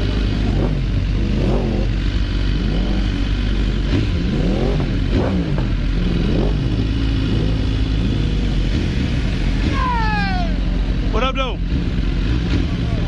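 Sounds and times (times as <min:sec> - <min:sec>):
motorcycle engines revving: 0:00.0 - 0:13.0
motorcycles idling: 0:00.0 - 0:13.0.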